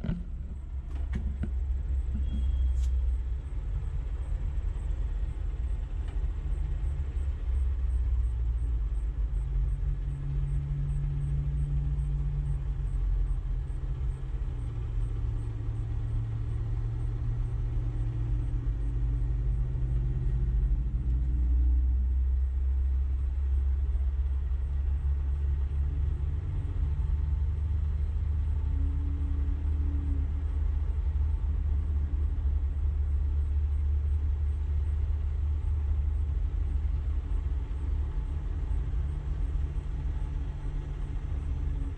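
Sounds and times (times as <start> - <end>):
vehicle engines rumbling: 0.0 - 41.9.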